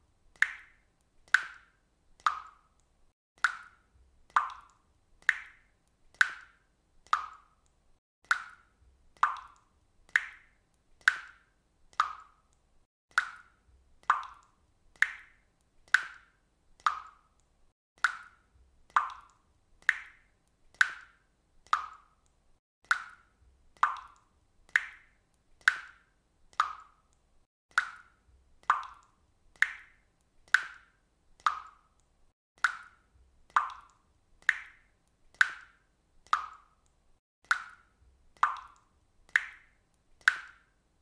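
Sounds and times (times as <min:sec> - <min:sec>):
faucet dripping water: 0:00.2 - 0:40.9.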